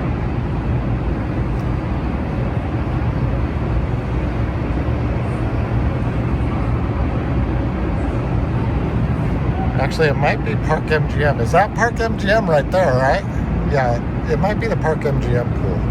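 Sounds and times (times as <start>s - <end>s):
tram rumble and hiss: 0.0s - 15.9s.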